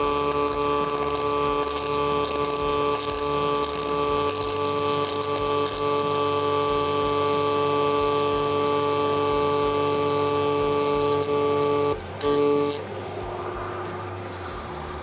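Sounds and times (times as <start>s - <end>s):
hum of held tones: 0.0s - 15.0s.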